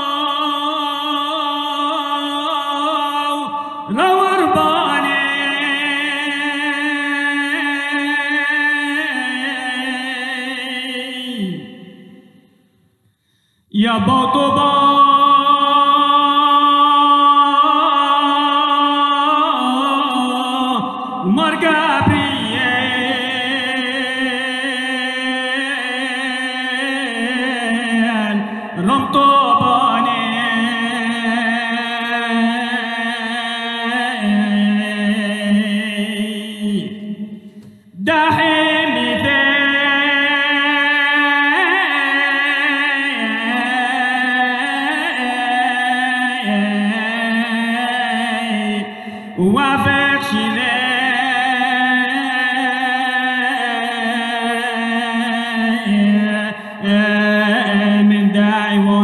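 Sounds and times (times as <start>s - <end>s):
man singing a hymn: 0.0s - 11.8s, 13.7s - 59.0s.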